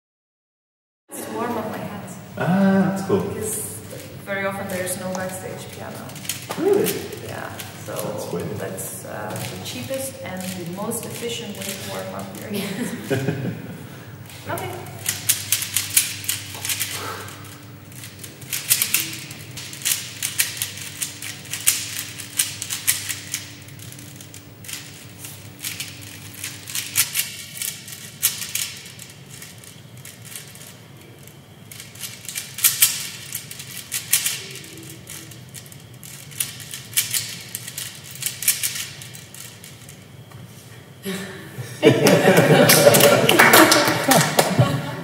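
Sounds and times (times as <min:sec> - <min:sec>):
faint steady hum: 0:01.1 - 0:45.0
puzzle cube clicking and rattling: 0:03.2 - 0:13.4, 0:14.2 - 0:40.3.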